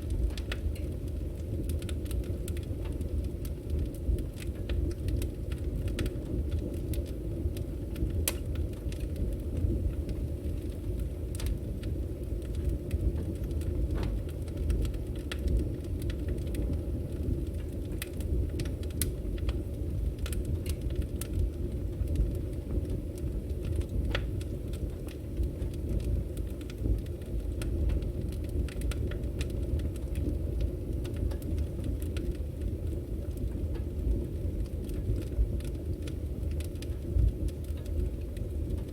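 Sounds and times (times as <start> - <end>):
firewood crackling and popping: 0.0 - 38.9
low rumble of flames: 0.0 - 38.9.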